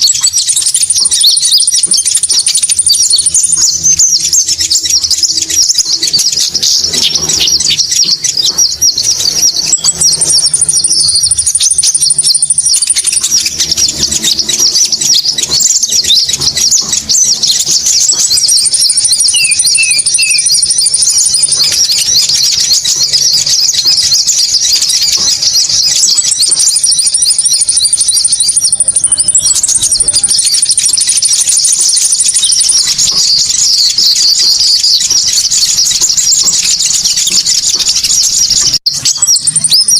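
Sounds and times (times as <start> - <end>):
dense bird chattering calls: 0.0 - 39.9
high even bird trill: 0.0 - 39.9.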